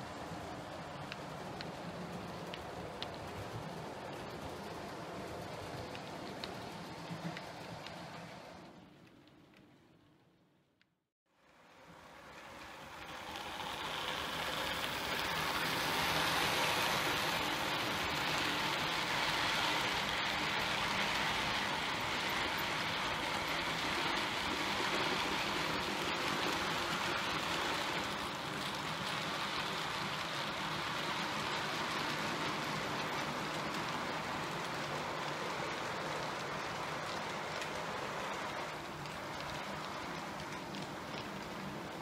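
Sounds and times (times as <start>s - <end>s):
model train running past: 0.0s - 9.6s, 11.4s - 42.0s.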